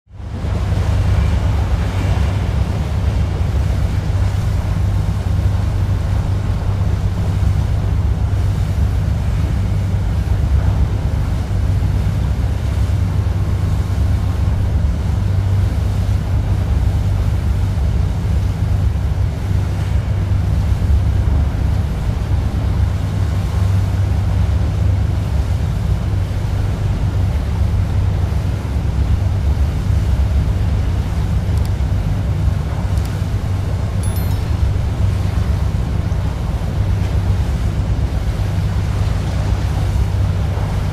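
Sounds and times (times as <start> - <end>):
water rushing past boat: 0.1 - 40.9.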